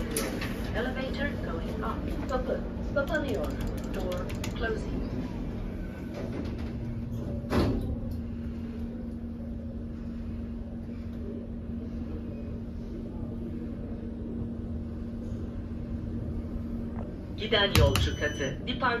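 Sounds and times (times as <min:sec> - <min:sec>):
elevator car humming: 0:00.0 - 0:19.0.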